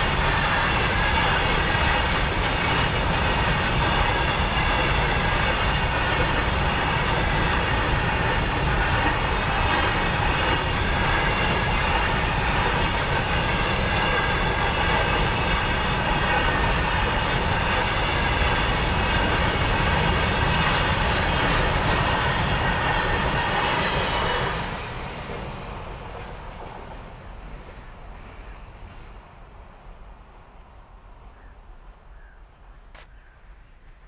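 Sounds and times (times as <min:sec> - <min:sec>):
freight train wheels rumbling: 0:00.0 - 0:33.1.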